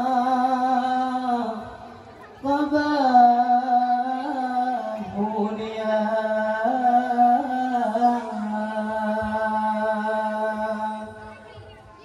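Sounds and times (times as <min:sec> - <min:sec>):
boys chanting in unison: 0:00.0 - 0:12.0.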